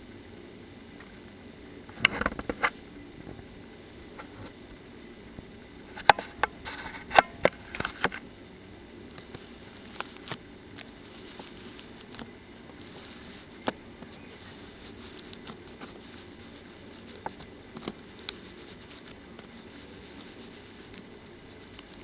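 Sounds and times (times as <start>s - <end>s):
low steady hiss: 0.0s - 22.0s
rustling: 1.0s - 22.0s.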